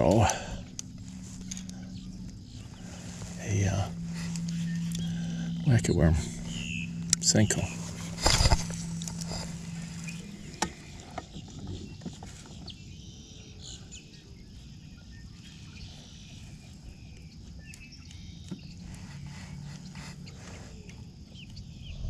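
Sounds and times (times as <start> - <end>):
birds chirping: 0.0 - 22.0
low steady hum: 0.0 - 22.0.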